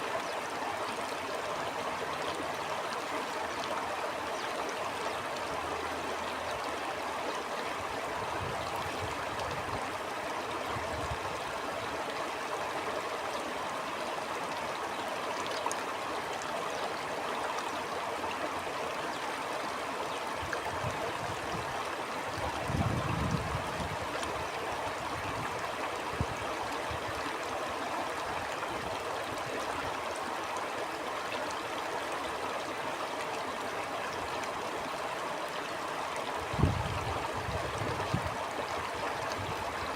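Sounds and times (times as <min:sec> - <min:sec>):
stream rushing and gurgling: 0:00.0 - 0:39.9.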